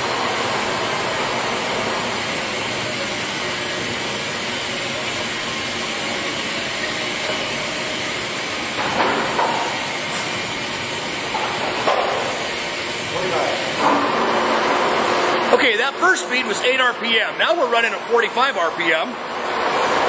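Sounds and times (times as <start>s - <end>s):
lathe running: 0.0s - 20.0s.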